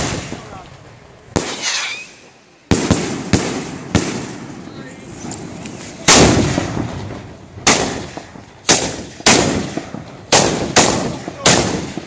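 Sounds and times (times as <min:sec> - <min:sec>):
gunpowder mortar blasts: 0:00.0 - 0:12.0.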